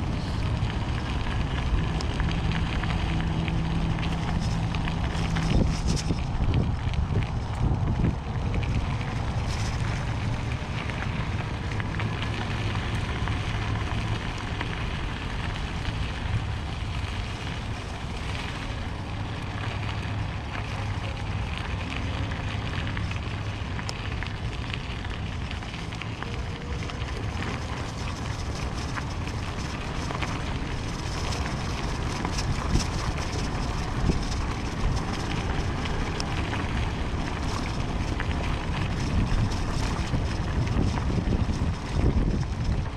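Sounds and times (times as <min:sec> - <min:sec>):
bike tyres crackling over gravel: 0:00.0 - 0:42.9
wind buffeting microphone: 0:00.0 - 0:42.9.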